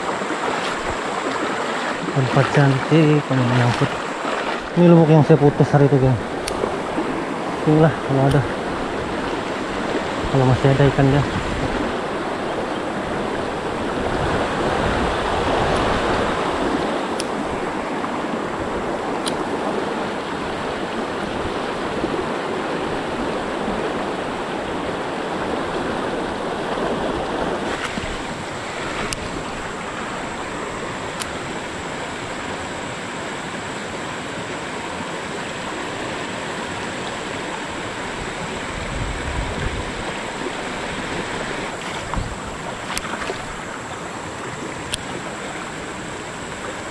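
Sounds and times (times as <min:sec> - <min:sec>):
stream rapids rushing: 0:00.0 - 0:46.9.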